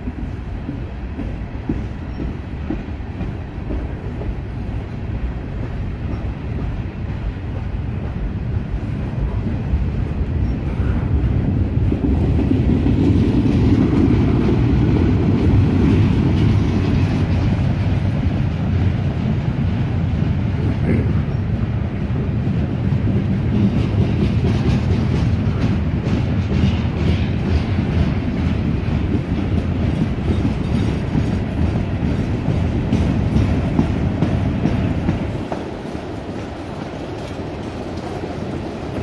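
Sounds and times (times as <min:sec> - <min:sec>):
steel wheels rumbling on rails: 0:00.0 - 0:39.0
wheels clickety-clack over rail joints: 0:00.0 - 0:39.0.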